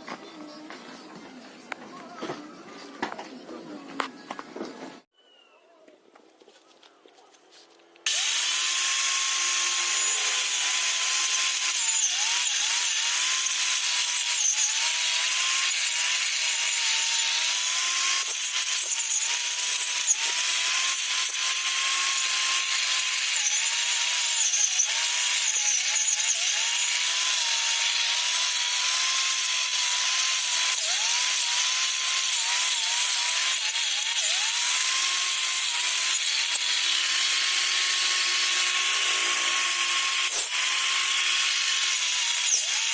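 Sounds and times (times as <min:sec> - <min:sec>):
angle grinder grass cutter whining: 0:08.0 - 0:42.9.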